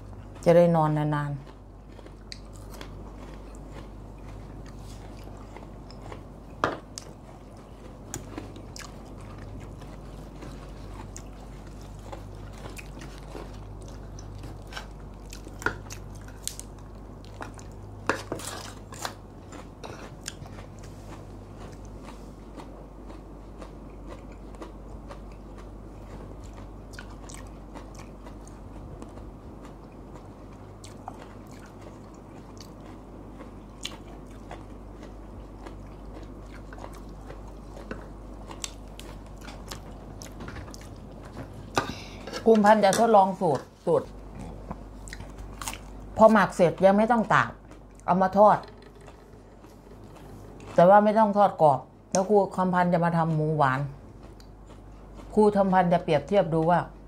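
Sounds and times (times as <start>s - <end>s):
chewing and crunching: 0.0s - 57.0s
steady low hum: 0.0s - 57.0s.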